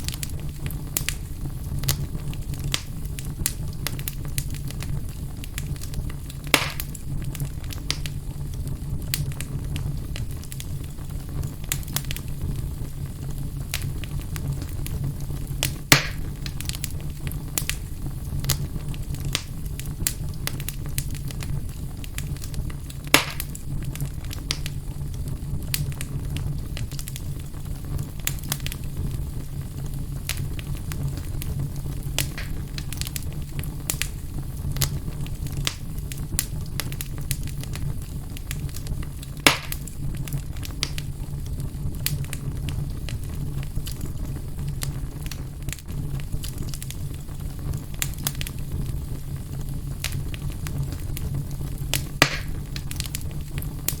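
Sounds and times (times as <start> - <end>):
loud fire pops: 0.0 - 54.0
wood fire crackling: 0.0 - 54.0.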